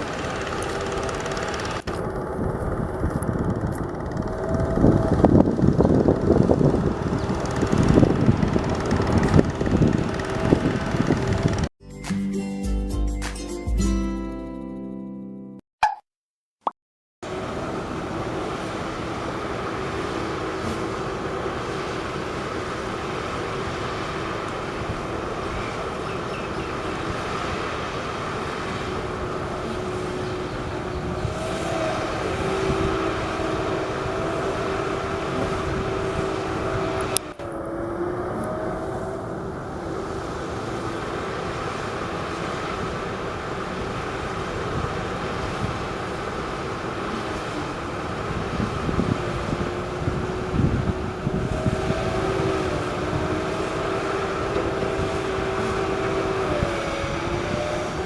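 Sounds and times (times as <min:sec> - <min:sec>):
heavy machinery engines droning: 0:00.0 - 0:11.7, 0:17.2 - 0:58.0.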